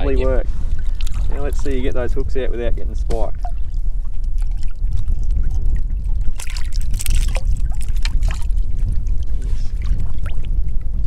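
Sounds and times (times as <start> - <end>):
low rumble: 0.0 - 11.0
water sloshing and splashing: 0.0 - 11.0.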